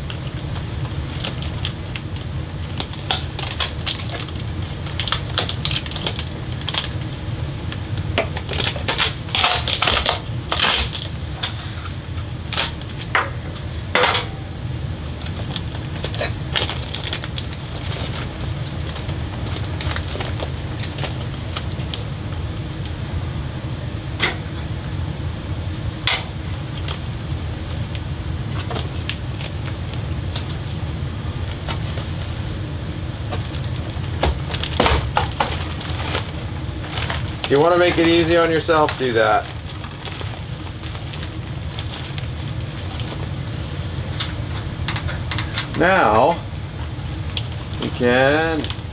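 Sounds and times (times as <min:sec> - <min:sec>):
foil tape crinkling: 0:00.0 - 0:13.8, 0:15.0 - 0:23.0, 0:26.0 - 0:44.7, 0:46.1 - 0:48.9
steady low hum: 0:00.0 - 0:48.9.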